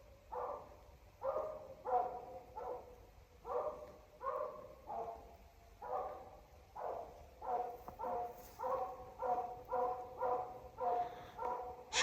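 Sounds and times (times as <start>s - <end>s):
dog barking faintly: 0.3s - 12.0s.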